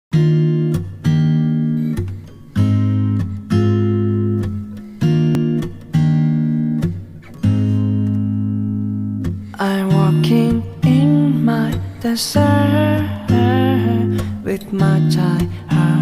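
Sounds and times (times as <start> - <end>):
acoustic guitar strumming chords: 0.1 - 16.0.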